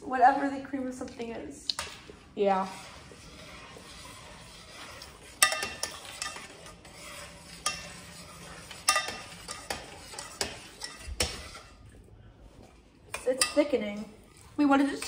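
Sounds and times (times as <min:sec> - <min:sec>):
utensil scraping through liquid: 0:02.4 - 0:15.0.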